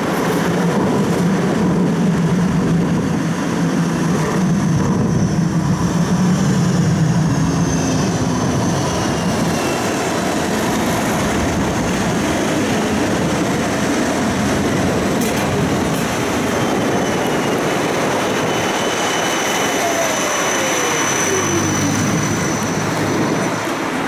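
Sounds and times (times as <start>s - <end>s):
tram wheels rumbling on rail: 0.0s - 24.0s.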